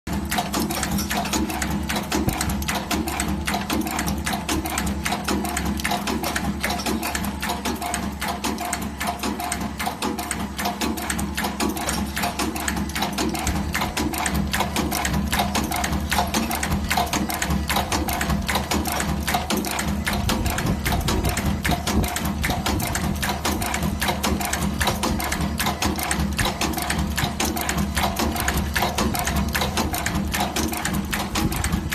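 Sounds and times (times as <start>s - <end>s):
motor hum: 0.1s - 31.9s
rapid clicking clatter: 0.1s - 31.9s.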